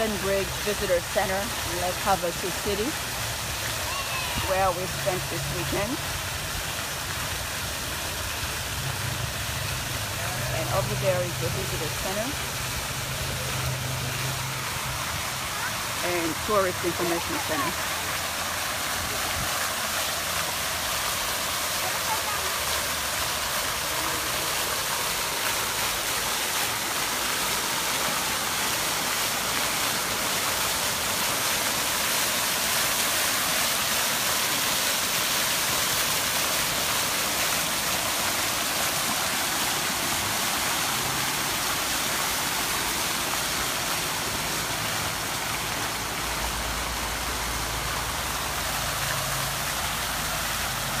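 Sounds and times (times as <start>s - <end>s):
fountain water splashing: 0.0s - 51.0s.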